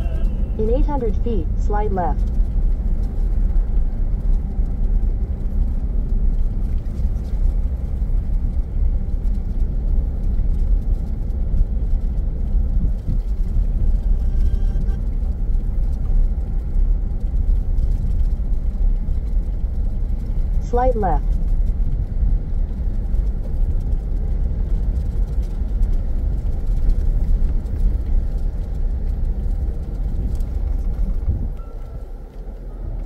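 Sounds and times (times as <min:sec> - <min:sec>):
engine and tyre rumble: 0:00.0 - 0:33.0.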